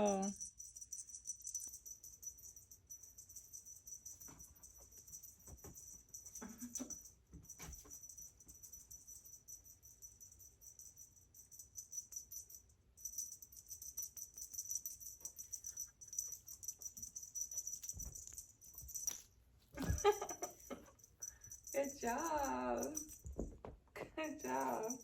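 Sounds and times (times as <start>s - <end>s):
small bell jingling: 0.0s - 25.0s.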